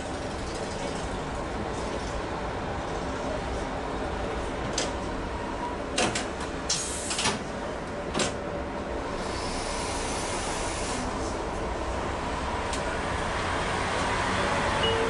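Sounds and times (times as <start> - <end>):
tram clunks: 0.0 - 15.0.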